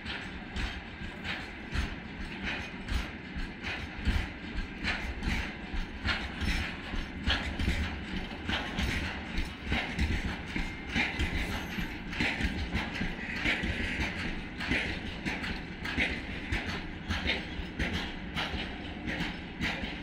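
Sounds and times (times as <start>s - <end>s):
freight train rumbling past: 0.0s - 20.0s
wheels clacking over rail joints: 0.0s - 20.0s.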